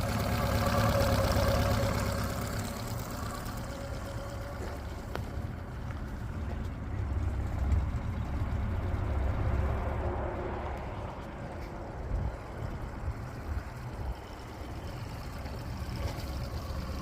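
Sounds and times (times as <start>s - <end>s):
outboard motor rumbling: 0.0s - 17.0s.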